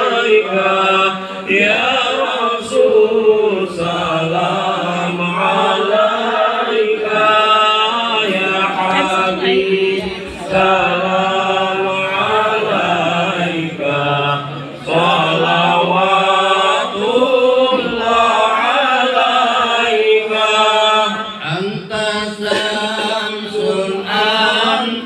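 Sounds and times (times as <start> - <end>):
devotional chanting: 0.0 - 25.0.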